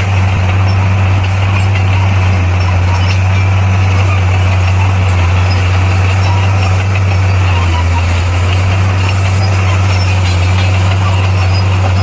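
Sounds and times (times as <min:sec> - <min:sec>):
bulldozer diesel engine humming: 0:00.0 - 0:12.0.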